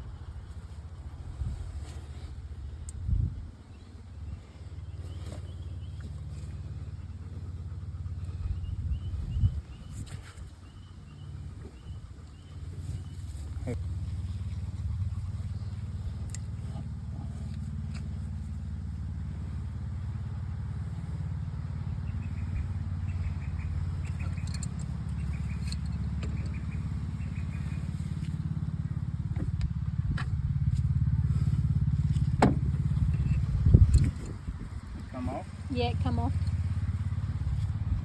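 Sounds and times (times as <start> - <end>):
tractor diesel engine idling: 4.0 - 9.8, 10.6 - 38.0.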